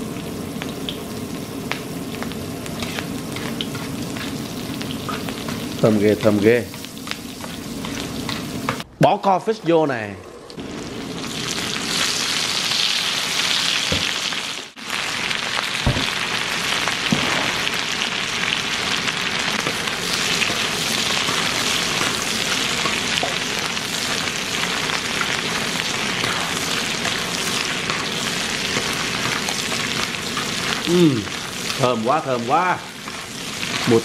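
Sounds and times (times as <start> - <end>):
food sizzling in a pan: 0.0 - 8.8, 10.3 - 34.0.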